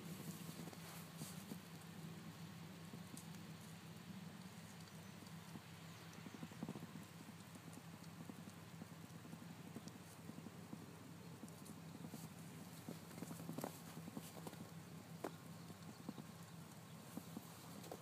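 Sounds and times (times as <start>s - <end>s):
animal chewing grass: 0.0s - 18.0s.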